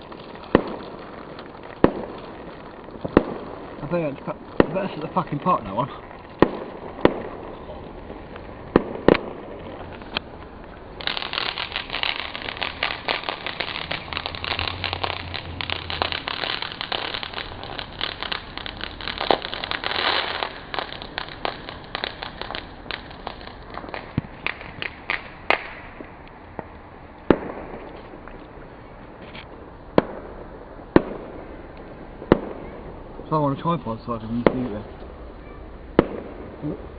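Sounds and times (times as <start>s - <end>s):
firework bangs: 0.0s - 36.9s
fireworks crackling pops: 0.0s - 36.9s.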